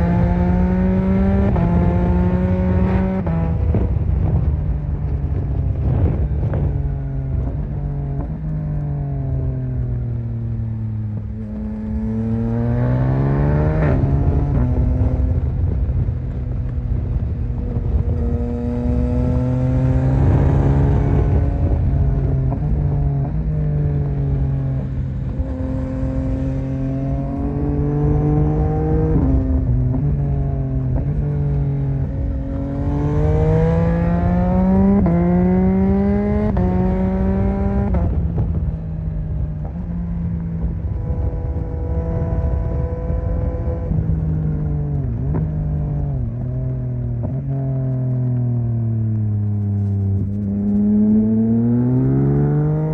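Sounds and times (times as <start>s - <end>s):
motorcycle engine revving: 0.0s - 4.6s, 9.4s - 16.4s, 17.0s - 52.9s
low wind: 0.0s - 52.9s
road rumble: 0.0s - 52.9s.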